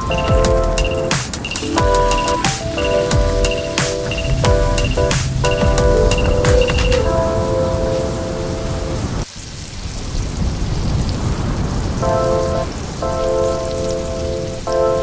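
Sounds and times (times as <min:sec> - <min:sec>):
background music with held notes: 0:00.0 - 0:09.1, 0:12.0 - 0:15.0.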